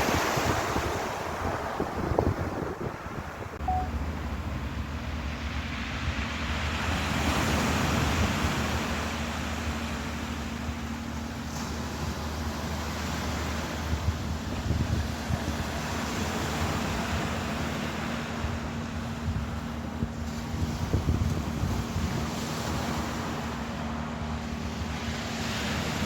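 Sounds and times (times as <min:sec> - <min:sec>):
surf washing in: 0:00.0 - 0:26.0
wind buffeting microphone: 0:00.0 - 0:26.0.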